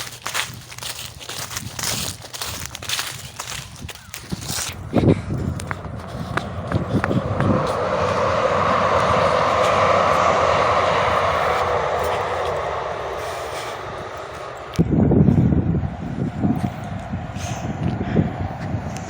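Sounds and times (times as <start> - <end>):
loud low rumble: 0.0 - 19.0
vehicle passing by: 0.0 - 19.0.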